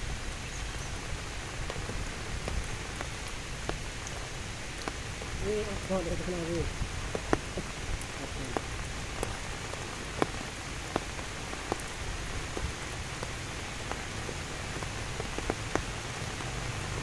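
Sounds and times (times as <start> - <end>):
rain falling steady hiss: 0.0 - 17.0
raindrops ticking nearby: 0.0 - 17.0.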